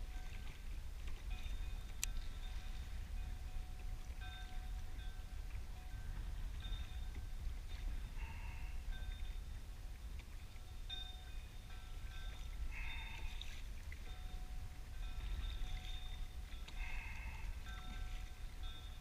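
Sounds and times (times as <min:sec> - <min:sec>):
choppy water around kayak: 0:00.0 - 0:19.0
faint bell-like ringing: 0:00.0 - 0:19.0
wind: 0:00.0 - 0:19.0.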